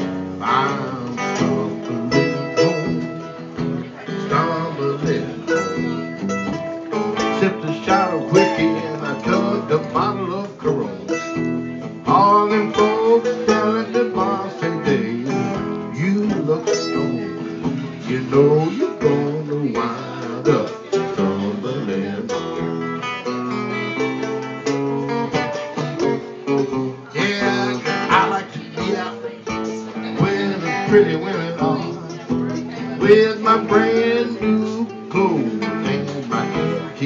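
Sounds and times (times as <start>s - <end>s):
electric guitar lead with bends: 0.0s - 37.0s.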